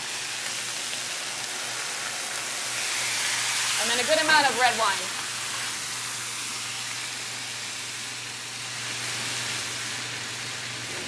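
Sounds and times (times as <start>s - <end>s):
wine sizzling in hot skillet: 0.0s - 11.0s.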